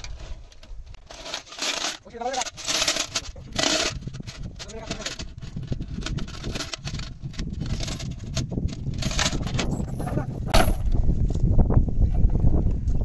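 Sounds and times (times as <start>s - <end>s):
wind rumble on microphone: 2.1s - 13.0s.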